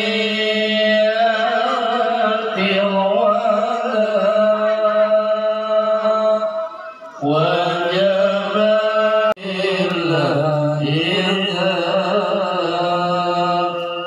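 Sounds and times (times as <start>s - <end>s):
chanted singing: 0.0s - 14.0s.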